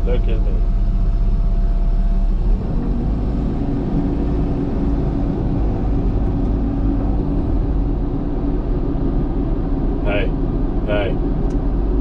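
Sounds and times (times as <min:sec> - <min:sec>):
excavator diesel engine running: 0:00.0 - 0:12.0
higher steady hum: 0:00.0 - 0:12.0.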